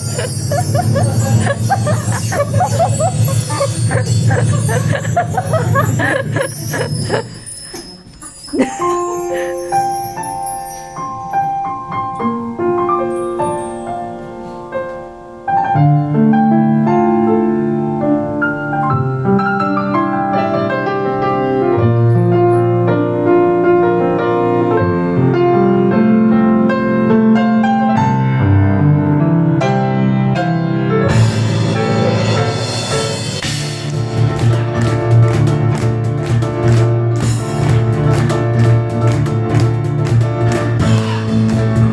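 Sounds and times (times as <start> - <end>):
piano playing: 0.0 - 41.9.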